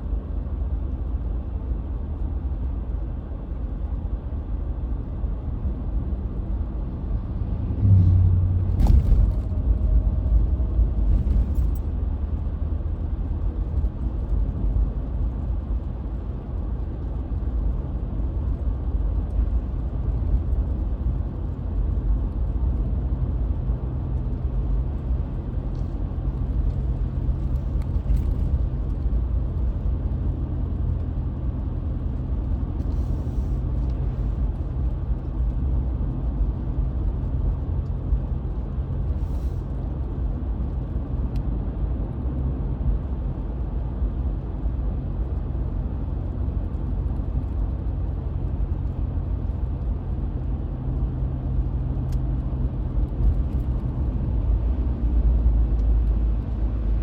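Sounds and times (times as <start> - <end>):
car engine and tyre rumble: 0.0 - 57.0
constant low hum: 0.0 - 57.0.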